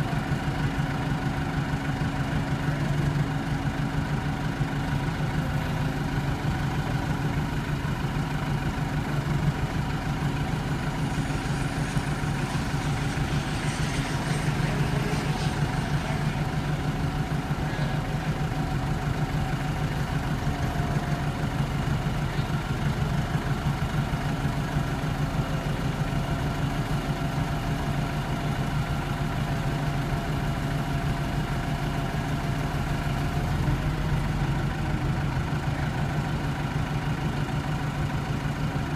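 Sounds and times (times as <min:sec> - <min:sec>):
forklift engine idling: 0:00.0 - 0:38.9.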